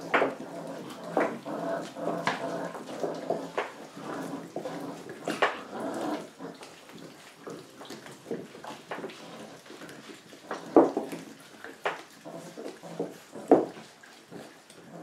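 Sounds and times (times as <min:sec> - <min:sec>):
puppies growling: 0:00.0 - 0:15.0.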